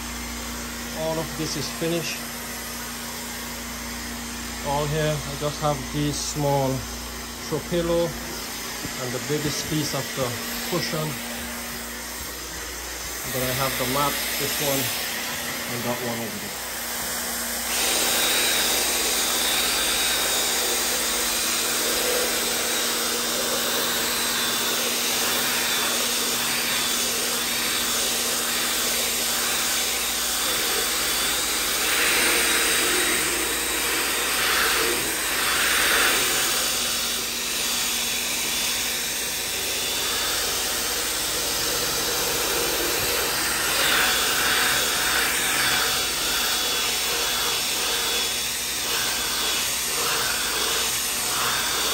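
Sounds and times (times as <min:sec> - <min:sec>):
power drill scrubbing fabric: 0:00.0 - 0:51.9.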